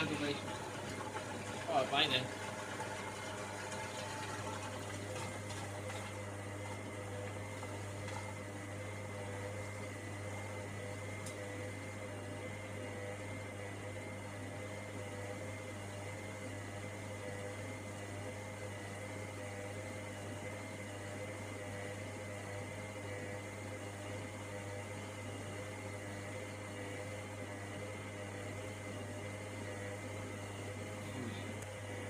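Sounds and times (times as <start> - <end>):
washing machine motor hum: 0.0 - 32.0.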